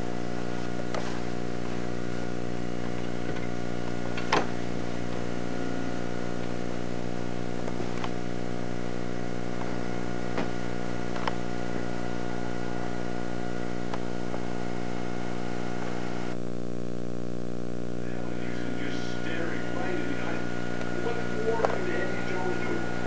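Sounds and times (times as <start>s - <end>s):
low hum of held tones: 0.0s - 23.0s.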